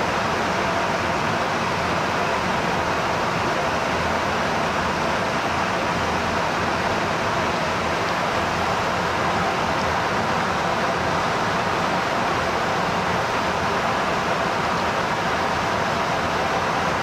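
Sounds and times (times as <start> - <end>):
aircraft engine roar in cabin: 0.0 - 17.0.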